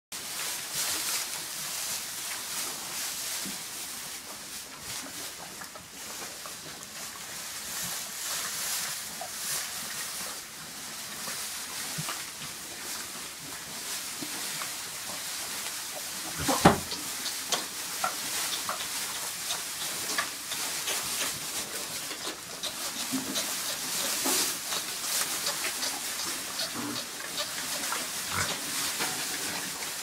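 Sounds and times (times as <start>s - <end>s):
pigs rooting in straw: 0.2s - 30.0s.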